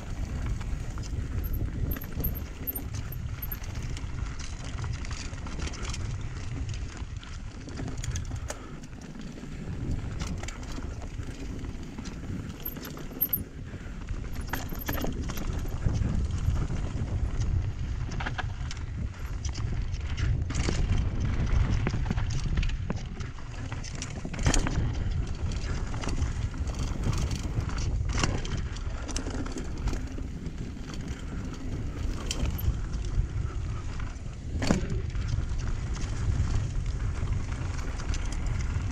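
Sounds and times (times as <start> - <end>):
bike rattling over rocks: 0.0 - 38.9
wind rumble on microphone: 0.0 - 38.9.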